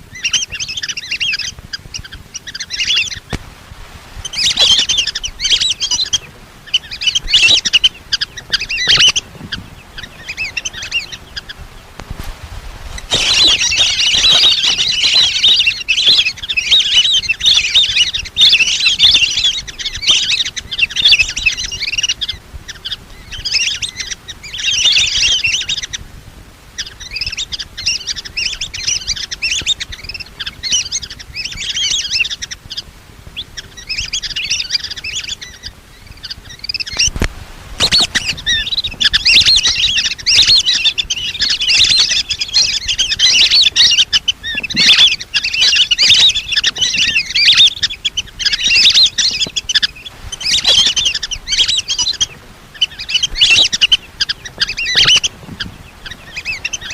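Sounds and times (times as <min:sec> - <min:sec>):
whistling ducks calling: 0:00.0 - 0:03.4, 0:04.1 - 0:12.0, 0:12.9 - 0:26.0, 0:26.7 - 0:56.9.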